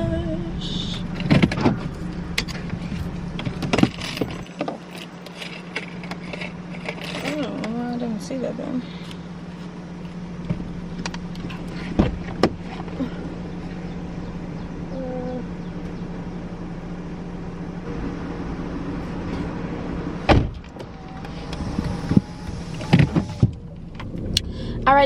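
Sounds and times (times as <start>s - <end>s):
car engine hum: 0.0s - 25.0s.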